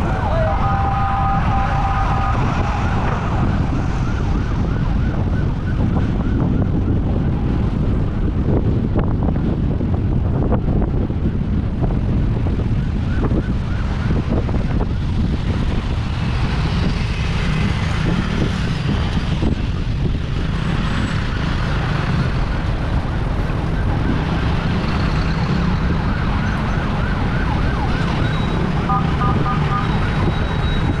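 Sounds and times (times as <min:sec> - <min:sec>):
road and traffic noise: 0:00.0 - 0:31.0
wind buffeting microphone: 0:00.0 - 0:31.0.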